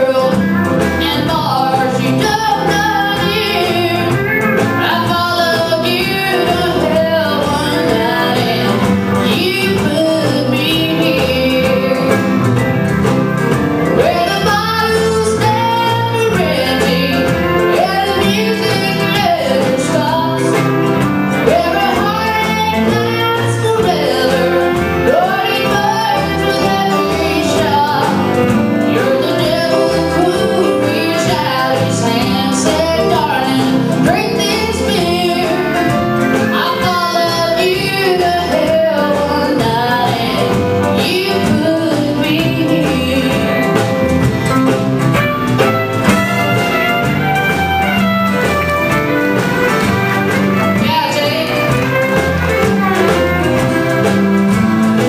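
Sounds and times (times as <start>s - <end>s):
drums: 0.0s - 55.0s
electric guitar: 0.0s - 55.0s
woman singing country song: 0.0s - 55.0s.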